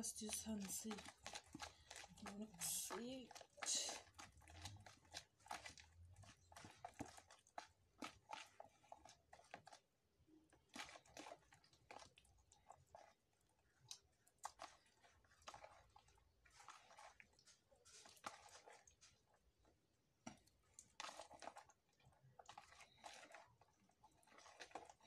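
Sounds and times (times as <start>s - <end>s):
wet batter squelches: 0.0s - 25.0s.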